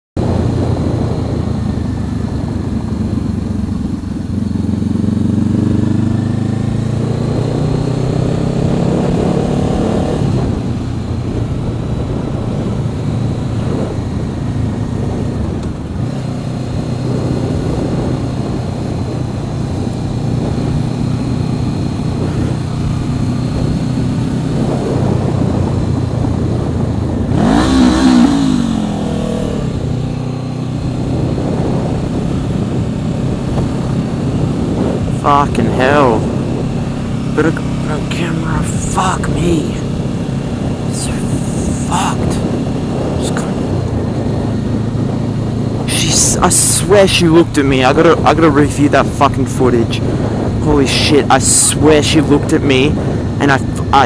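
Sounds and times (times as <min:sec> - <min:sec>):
motorcycle engine accelerating: 0:00.2 - 0:54.0.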